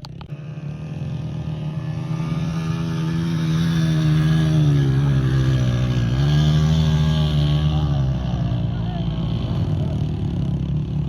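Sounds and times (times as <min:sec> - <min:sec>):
motorcycle engine under throttle: 0:00.0 - 0:11.0.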